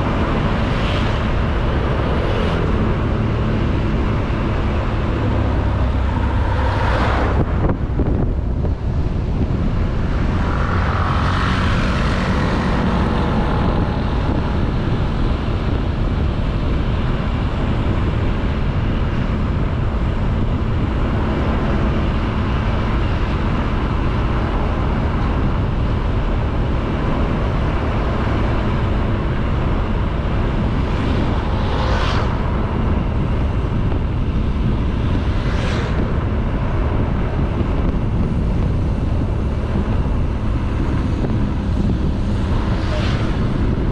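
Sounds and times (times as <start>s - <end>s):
scooter engine and tyre noise: 0.0s - 43.9s
wind rushing on microphone: 0.0s - 43.9s.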